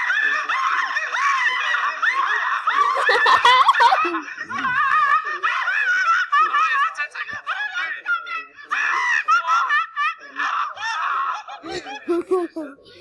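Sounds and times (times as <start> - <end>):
high-pitched laughter: 0.0 - 7.6, 8.3 - 12.8.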